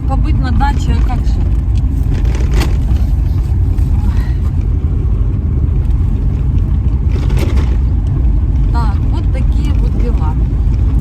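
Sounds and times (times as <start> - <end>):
car rumble inside cabin: 0.0 - 11.0.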